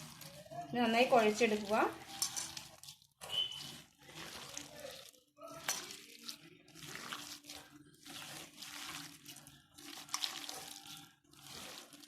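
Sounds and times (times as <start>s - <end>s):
hands squishing wet batter: 0.0s - 12.0s.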